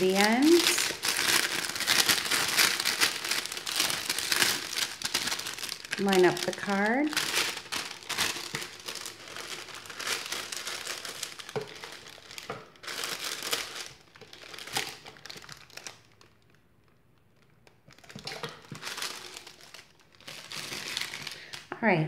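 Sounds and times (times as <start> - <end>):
plastic bag crinkling: 0.0 - 21.7.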